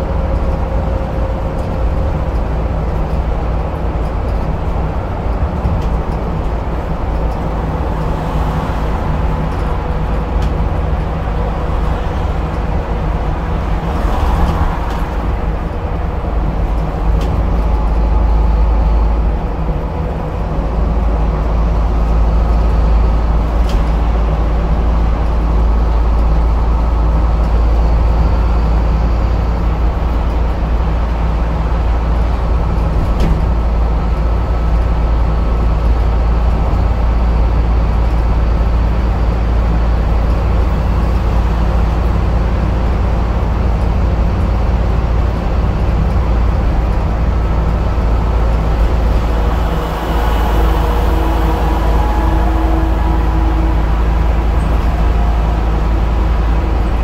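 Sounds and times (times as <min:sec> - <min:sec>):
diesel bus engine droning: 0:00.0 - 0:57.0.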